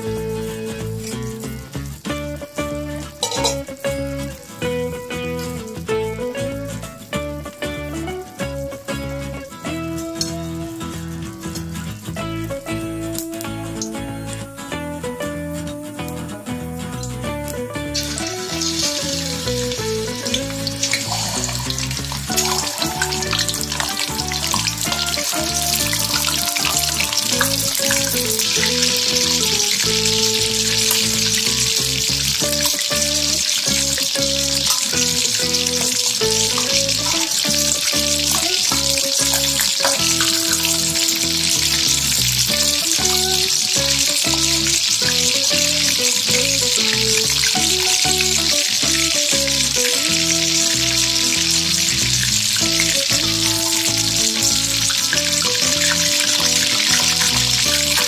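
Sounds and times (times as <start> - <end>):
background music: 0.0 - 58.0
chicken deep-frying in oil: 0.0 - 58.0.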